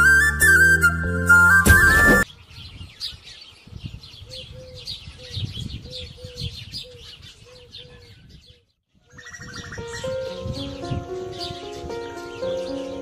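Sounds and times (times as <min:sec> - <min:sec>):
small birds chirping: 0:02.2 - 0:13.0.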